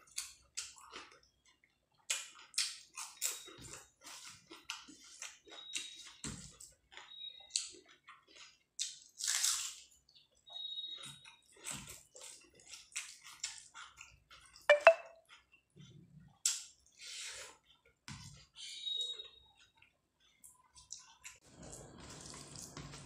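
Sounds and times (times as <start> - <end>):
wet chewing and lip smacks: 0.0 - 10.2, 10.9 - 23.0
food squishing by hand: 0.0 - 14.6, 15.3 - 23.0.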